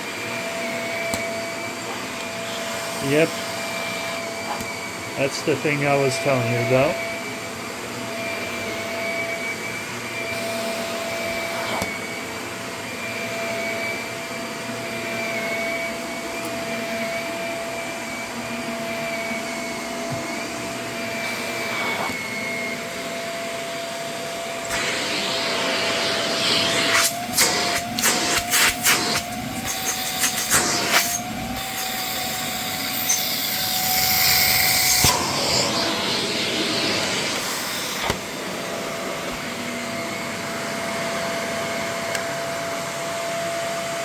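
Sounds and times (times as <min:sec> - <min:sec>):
upright vacuum running: 0:00.0 - 0:44.0.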